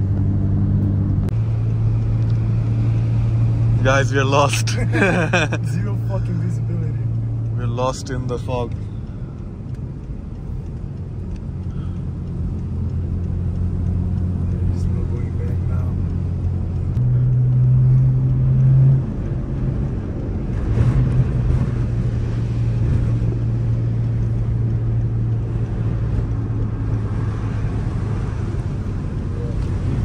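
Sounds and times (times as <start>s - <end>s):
car engine droning from inside cabin: 0.0s - 30.0s.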